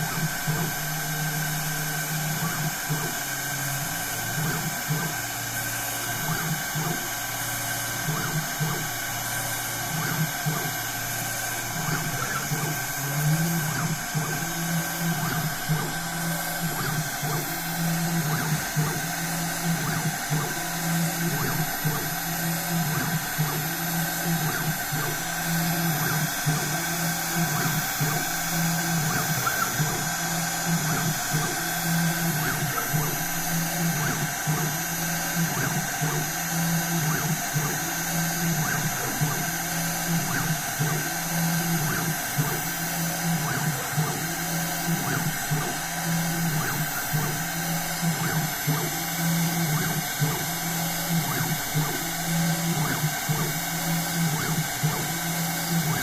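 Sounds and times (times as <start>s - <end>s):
spindle high whine: 0.0s - 56.0s
stepper motors humming: 0.0s - 56.0s.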